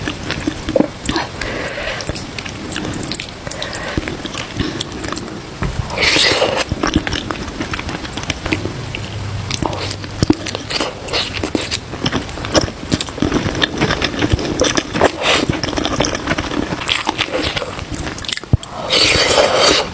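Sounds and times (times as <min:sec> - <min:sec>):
person chewing with wet smacks: 0:00.0 - 0:19.9.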